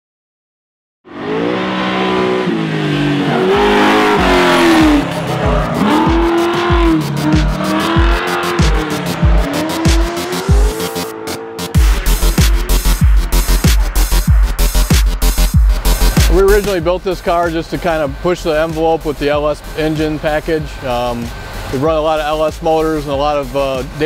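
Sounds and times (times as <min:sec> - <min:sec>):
car engine revving: 0:01.1 - 0:24.0
electronic music beat: 0:03.3 - 0:24.0.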